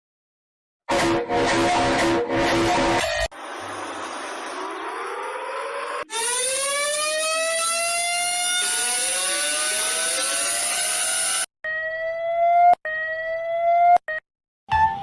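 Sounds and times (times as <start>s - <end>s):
warning siren winding up: 0.9s - 14.2s
second rising siren tone: 1.6s - 15.0s.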